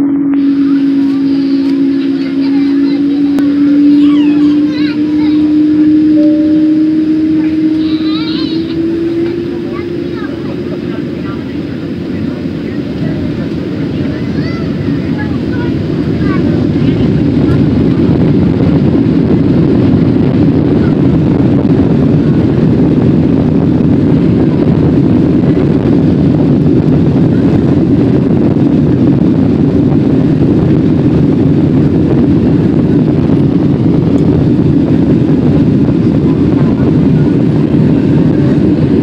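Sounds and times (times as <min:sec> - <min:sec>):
aircraft engines rumbling: 0:00.0 - 0:39.0.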